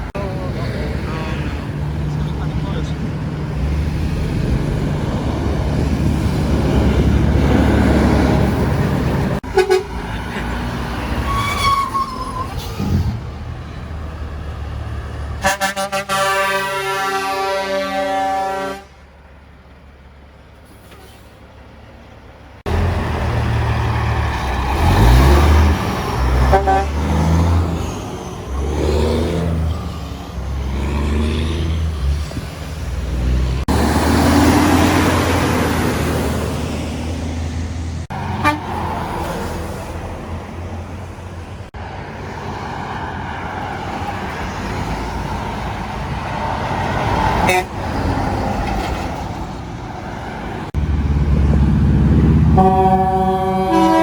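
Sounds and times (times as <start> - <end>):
semi trucks passing: 0.0 - 54.0.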